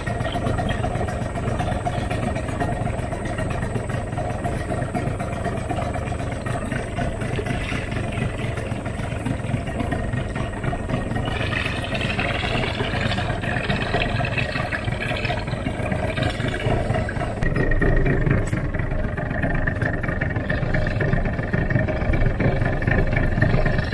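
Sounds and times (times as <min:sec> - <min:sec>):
boat motor running: 0:00.0 - 0:23.9.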